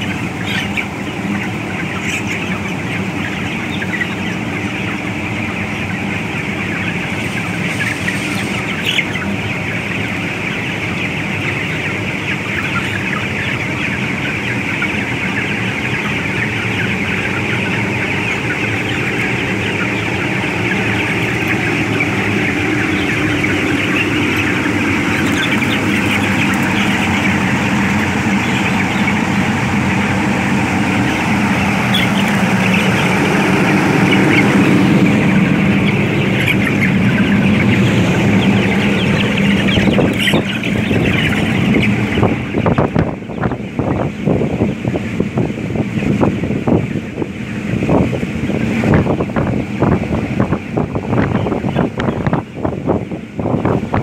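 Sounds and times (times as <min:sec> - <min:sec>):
chickens cheeping and clucking: 0:00.0 - 0:54.0.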